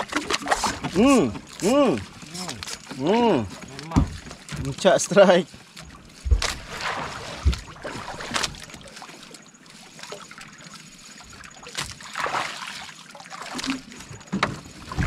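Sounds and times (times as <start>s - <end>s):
sea noise: 0.0s - 15.0s
wind: 0.0s - 15.0s.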